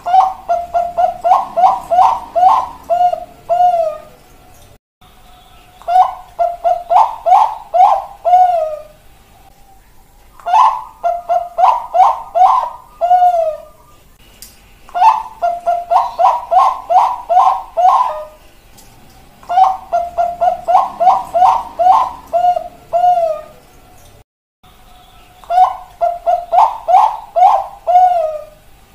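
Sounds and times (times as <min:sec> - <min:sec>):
dove cooing: 0:00.0 - 0:04.7, 0:05.8 - 0:14.1, 0:14.9 - 0:24.2, 0:25.4 - 0:28.8.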